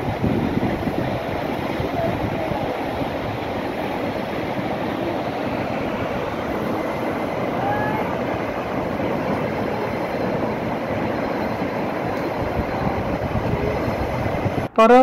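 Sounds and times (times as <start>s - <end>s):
water rushing in stream: 0.0s - 14.6s.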